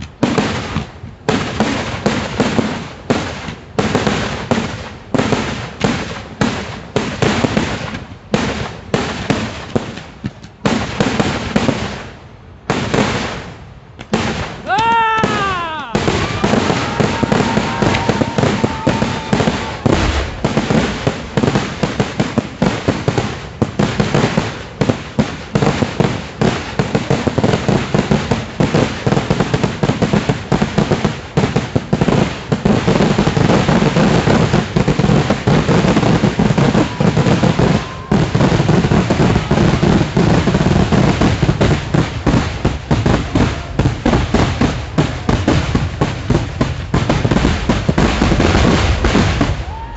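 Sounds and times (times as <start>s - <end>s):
firecracker bangs: 0.0s - 49.9s.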